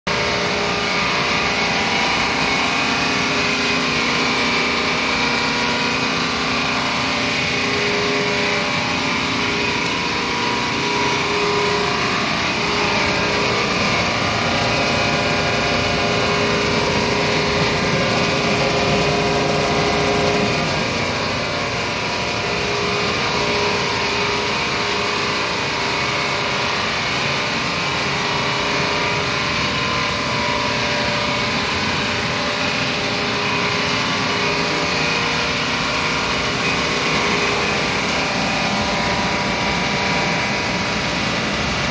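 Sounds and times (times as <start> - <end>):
wire granulator machine drone: 0.1 - 41.9.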